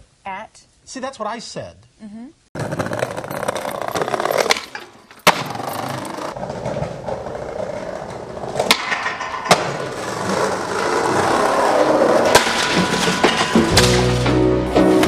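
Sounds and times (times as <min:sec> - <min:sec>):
skateboard wheels rolling on concrete: 0:02.6 - 0:15.0.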